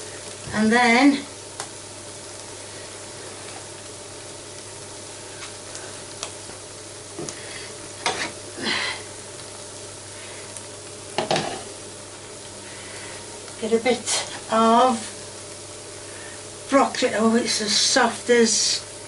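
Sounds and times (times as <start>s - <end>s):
chicken and onions sizzling: 0.0s - 19.0s.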